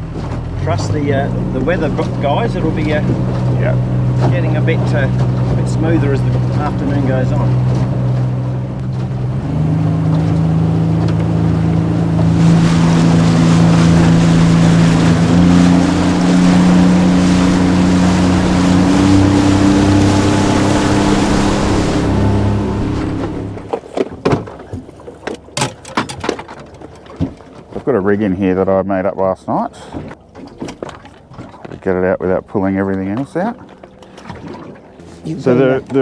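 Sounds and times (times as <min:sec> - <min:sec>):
rush of wind and water: 0:00.0 - 0:28.2, 0:29.5 - 0:36.0
motorboat engine running: 0:00.0 - 0:36.0.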